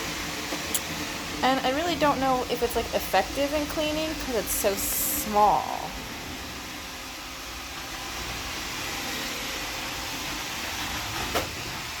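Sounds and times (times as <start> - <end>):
robot vacuum whirring: 0.0 - 12.0.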